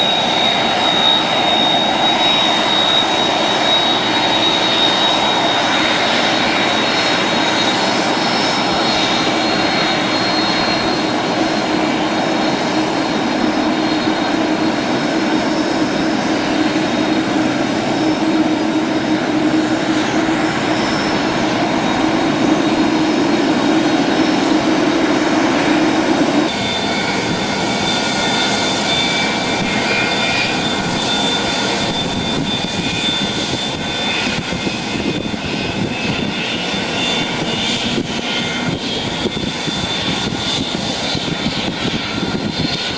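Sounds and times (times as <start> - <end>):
aircraft engine: 0.0 - 42.9
jet engines whining and droning: 0.0 - 42.9.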